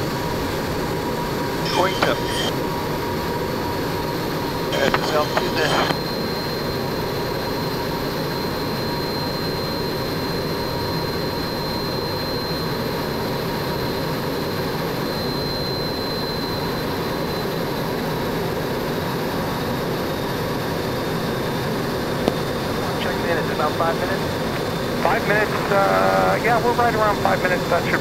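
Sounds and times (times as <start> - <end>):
jet engine rush with whine: 0.0 - 28.0.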